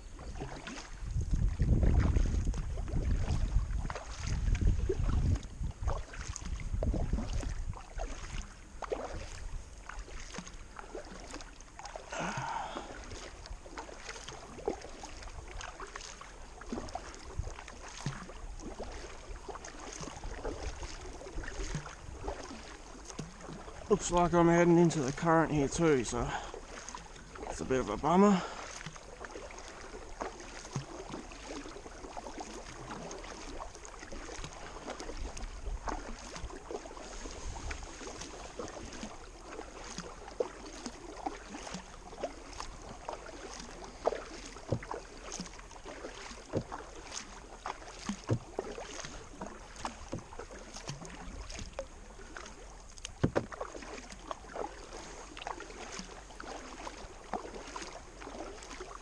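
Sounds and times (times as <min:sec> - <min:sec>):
paddle splashing and dripping: 0:00.0 - 0:59.0
steady wash of water: 0:00.0 - 0:59.0.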